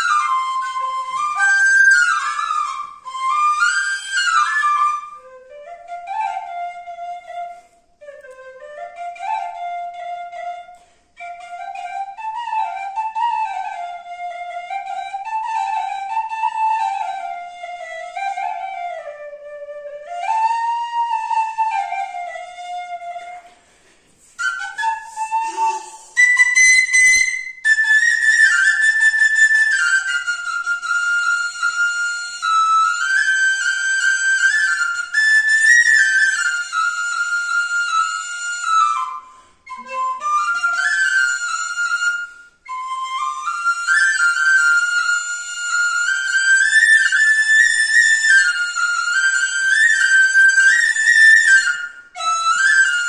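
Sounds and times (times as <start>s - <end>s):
bamboo flute melody: 0.0s - 53.0s.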